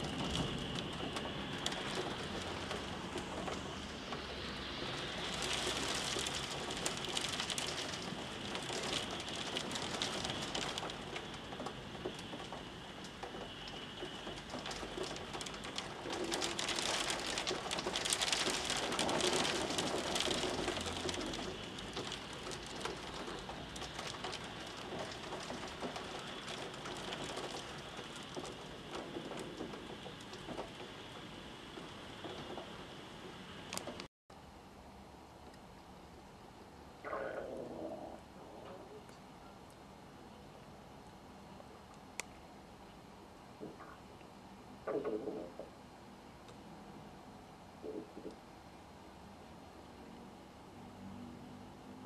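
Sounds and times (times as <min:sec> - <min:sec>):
heavy rain on a street: 0:00.0 - 0:34.1, 0:39.9 - 0:52.0.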